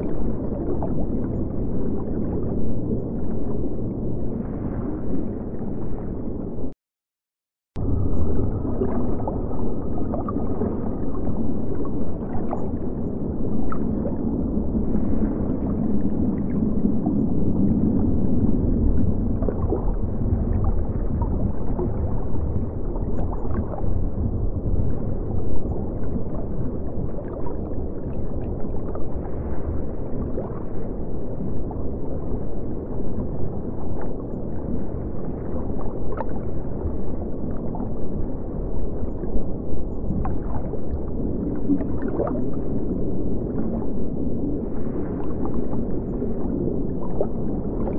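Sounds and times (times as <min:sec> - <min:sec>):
underwater water rush: 0:07.8 - 0:47.9.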